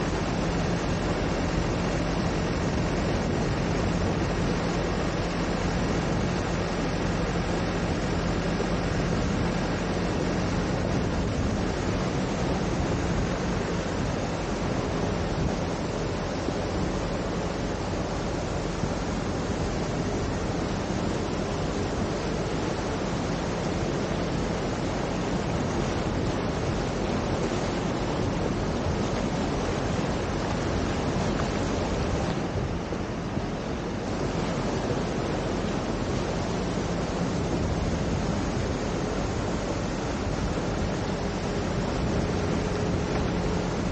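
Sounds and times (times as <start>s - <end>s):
floodwater rushing and churning: 0.0s - 43.9s.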